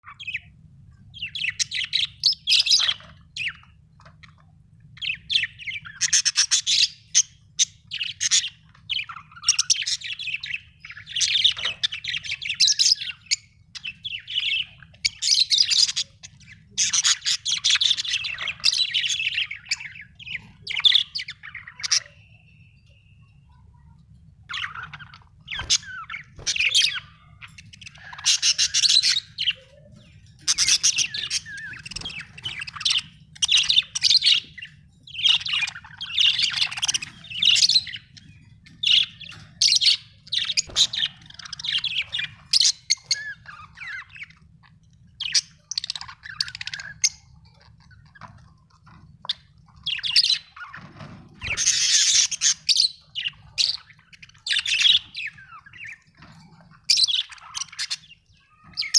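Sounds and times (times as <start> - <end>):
budgerigars chirping: 1.1 - 23.0, 24.4 - 58.9.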